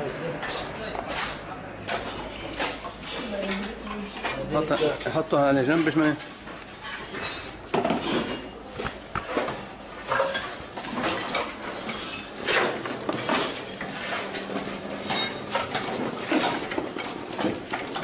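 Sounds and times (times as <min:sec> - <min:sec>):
hand tools and metal parts clinking: 0:00.4 - 0:18.0.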